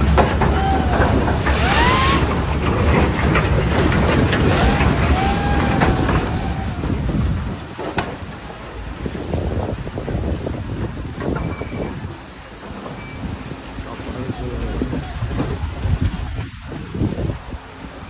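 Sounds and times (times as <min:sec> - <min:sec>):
heavy low rumble: 0:00.0 - 0:18.0
wind buffeting microphone: 0:00.0 - 0:18.0.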